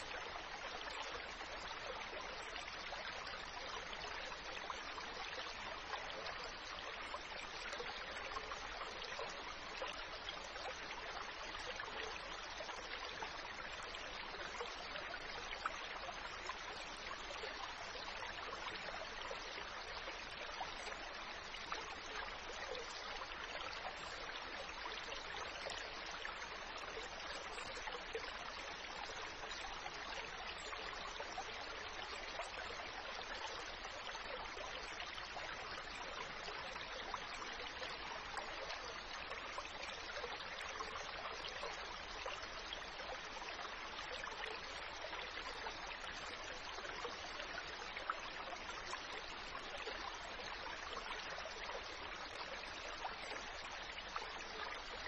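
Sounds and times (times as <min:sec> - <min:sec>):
flowing trickling water: 0:00.0 - 0:55.0.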